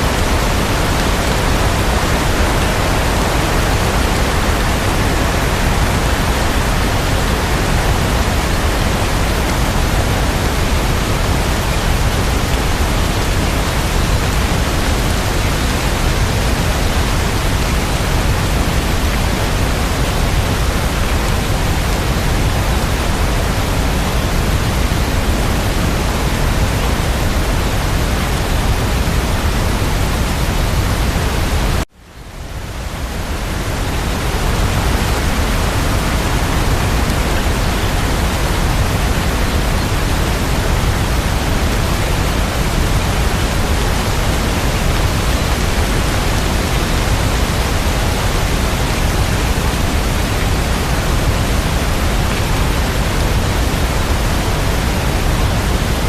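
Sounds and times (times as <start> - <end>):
rain hiss: 0.0 - 56.0.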